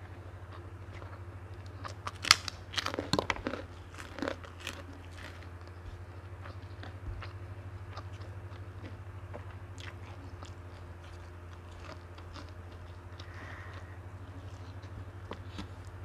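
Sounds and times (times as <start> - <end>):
steady low hum: 0.0 - 16.0
chewing with mouth clicks: 0.5 - 16.0.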